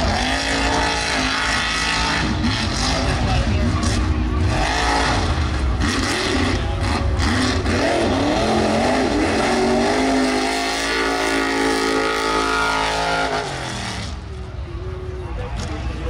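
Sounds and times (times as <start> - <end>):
truck engine revving hard: 0.0 - 14.3.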